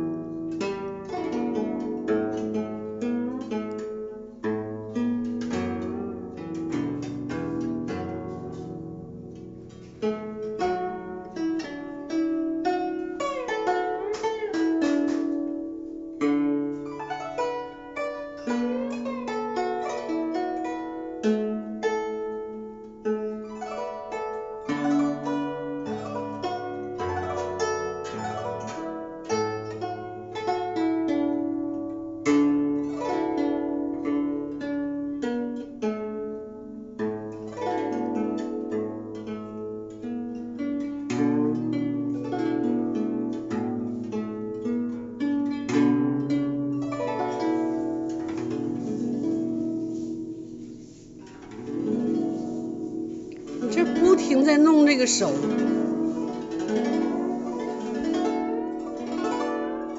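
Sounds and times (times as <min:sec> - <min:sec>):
guzheng plucked melody: 0:00.0 - 0:59.9.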